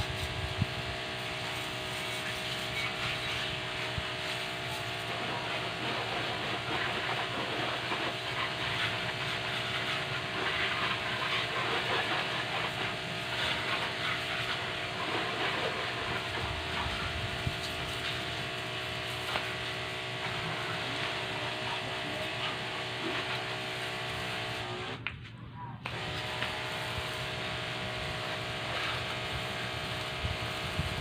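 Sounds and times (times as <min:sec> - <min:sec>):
water jet spraying: 0:00.0 - 0:24.8, 0:25.9 - 0:31.0
washer motor humming: 0:00.1 - 0:25.0, 0:25.8 - 0:31.0.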